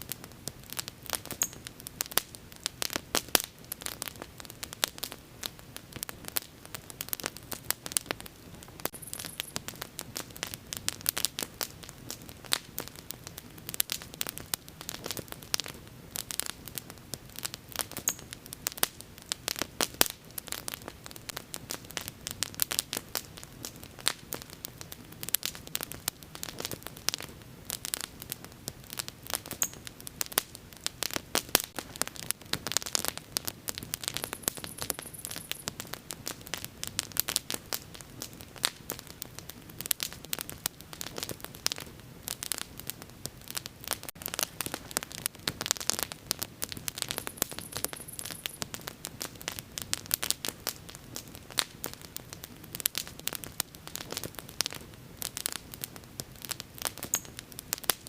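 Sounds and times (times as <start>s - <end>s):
low rumble of flame: 0.0s - 58.0s
wood fire crackling and popping: 0.0s - 58.0s.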